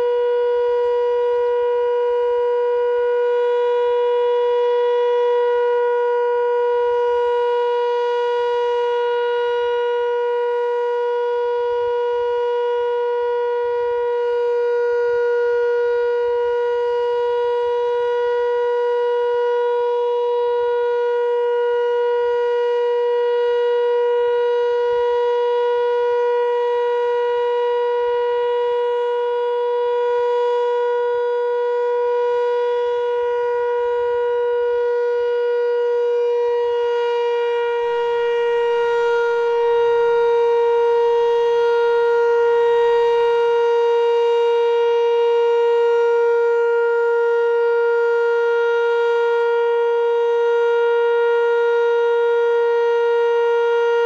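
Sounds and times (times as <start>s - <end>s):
steady warning siren: 0.0s - 54.0s.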